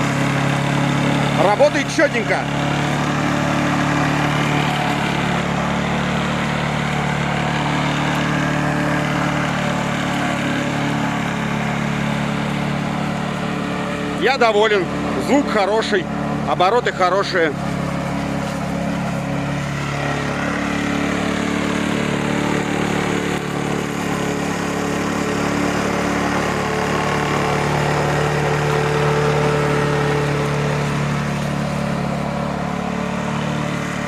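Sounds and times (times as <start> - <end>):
lawn mower engine running: 0.0 - 34.0.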